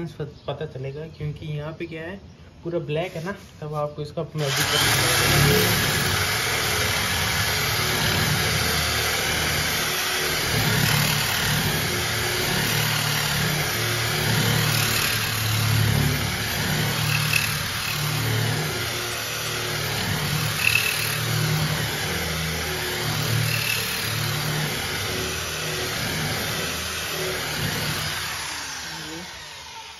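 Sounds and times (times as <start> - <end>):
angle grinder grinding metal: 4.4 - 29.9.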